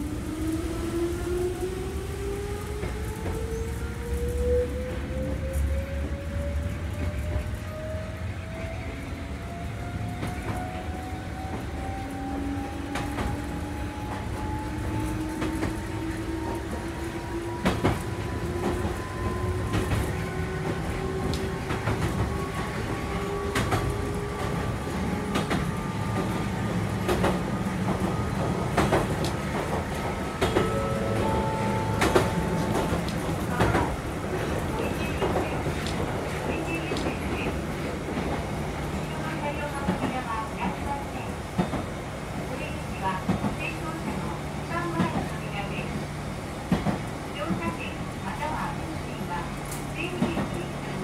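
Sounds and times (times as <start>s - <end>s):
low train running rumble: 0.0s - 51.0s.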